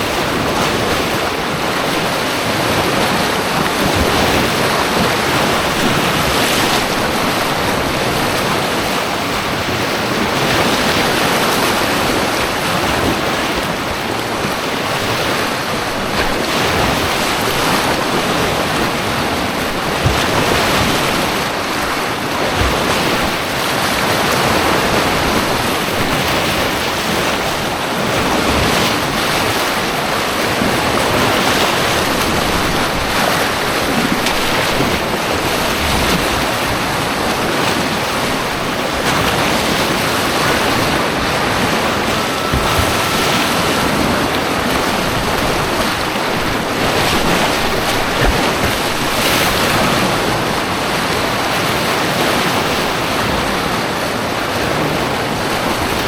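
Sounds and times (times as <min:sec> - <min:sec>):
rushing white water rapids: 0:00.0 - 0:56.0.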